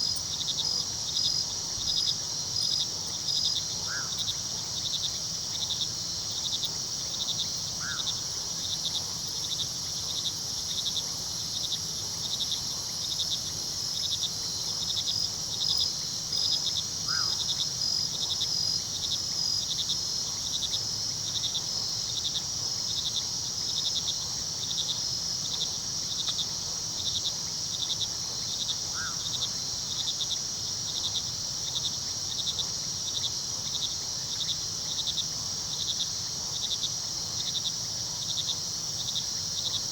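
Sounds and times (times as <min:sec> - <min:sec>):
cricket chirping rhythmically: 0:00.0 - 0:39.9
crickets trilling: 0:00.0 - 0:39.9.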